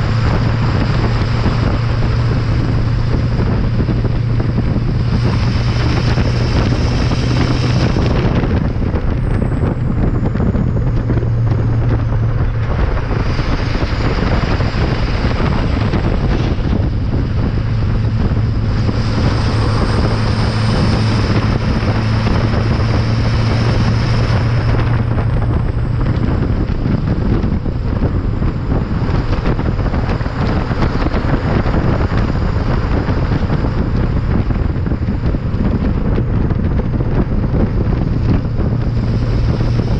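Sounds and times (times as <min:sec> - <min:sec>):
diesel exhaust drone: 0:00.0 - 0:39.9
wind buffeting microphone: 0:00.0 - 0:39.9.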